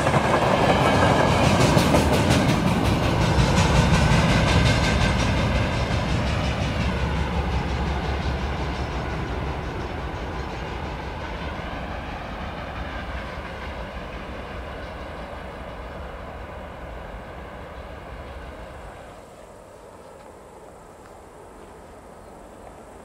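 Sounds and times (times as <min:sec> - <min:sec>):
train rolling past: 0:00.0 - 0:23.0.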